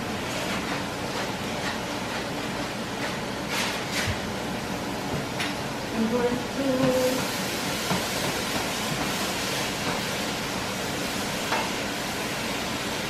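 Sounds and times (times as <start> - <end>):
vegetables frying in a pan: 0.0 - 13.0.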